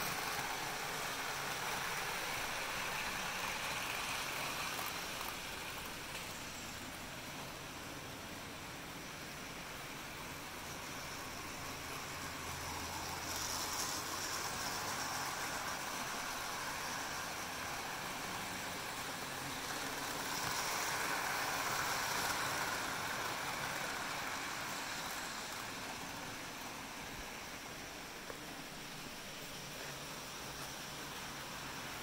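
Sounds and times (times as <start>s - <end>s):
model train motors whirring: 0.0s - 32.0s.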